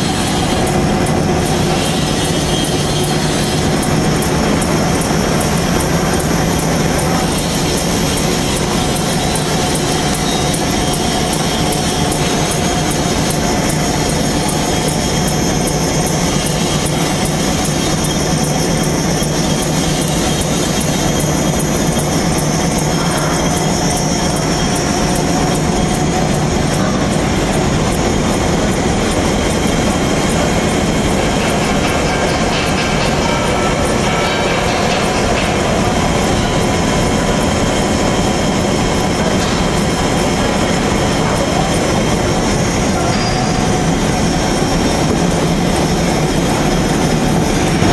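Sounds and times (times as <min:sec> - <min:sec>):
milling machine cutting steel: 0:00.0 - 0:47.9.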